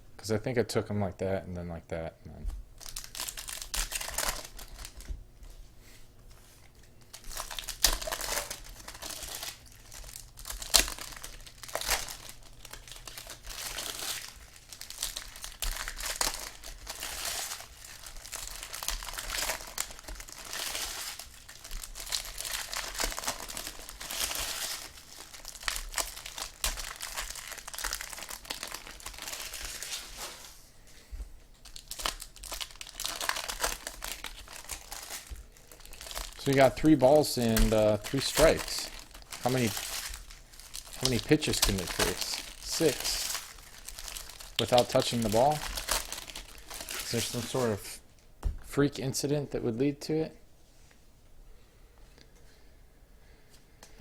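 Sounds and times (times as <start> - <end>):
foil wrappers crinkling and tearing: 2.8 - 5.6, 6.3 - 30.6, 31.4 - 48.0.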